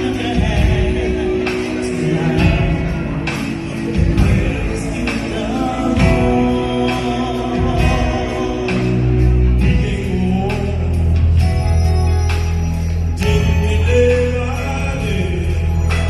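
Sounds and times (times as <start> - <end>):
instrumental accompaniment with beat: 0.0 - 16.0.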